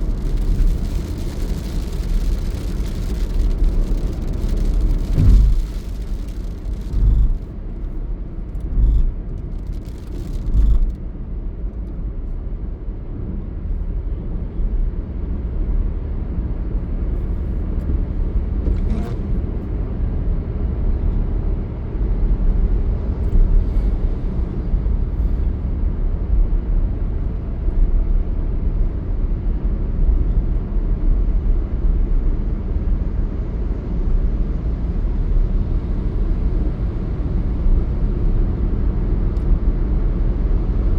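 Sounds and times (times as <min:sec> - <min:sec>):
vehicle rumble: 0:00.0 - 0:40.9.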